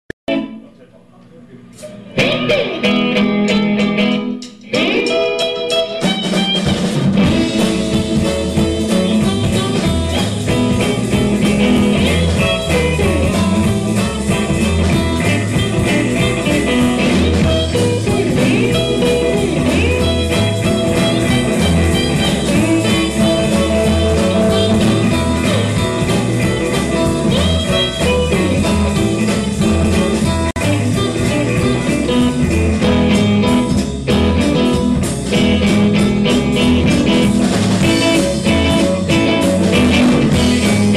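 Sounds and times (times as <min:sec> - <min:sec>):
electric guitars: 0:00.3 - 0:00.6, 0:01.8 - 0:40.9
drums: 0:01.3 - 0:40.9.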